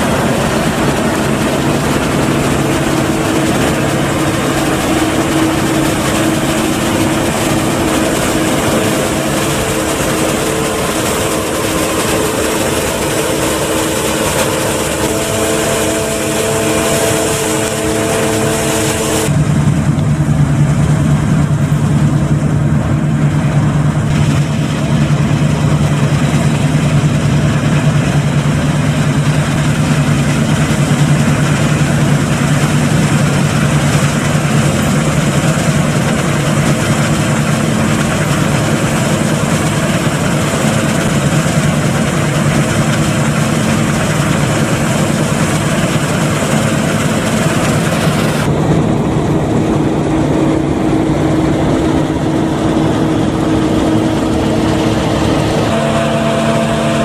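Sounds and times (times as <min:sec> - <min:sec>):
combine harvester engine hum: 0:00.0 - 0:57.0
wide rushing noise: 0:00.0 - 0:57.0.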